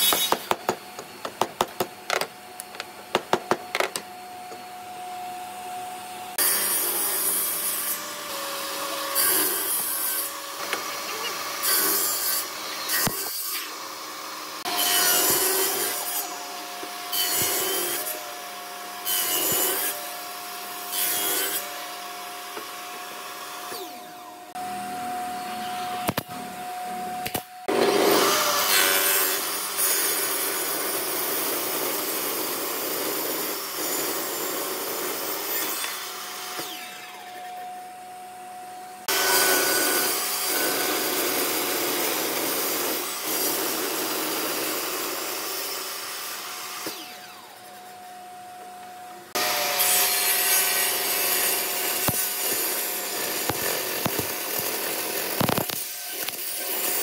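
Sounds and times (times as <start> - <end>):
table saw cutting wood: 0.0 - 2.8, 3.4 - 38.0, 39.0 - 48.4, 49.3 - 57.0.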